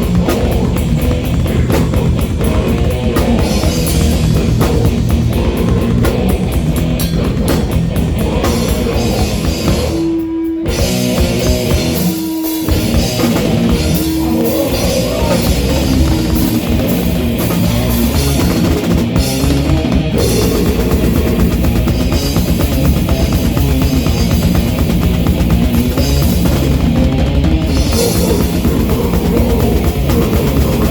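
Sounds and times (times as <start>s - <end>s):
drum kit: 0.0s - 30.9s
guitar: 0.0s - 30.9s
live rock band playing: 0.0s - 30.9s.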